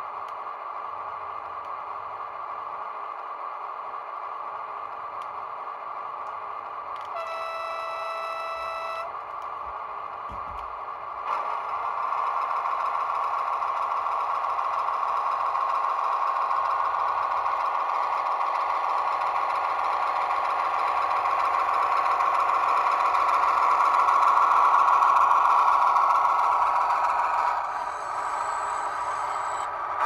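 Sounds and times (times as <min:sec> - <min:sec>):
diesel engine sound from speaker: 0:00.0 - 0:30.0.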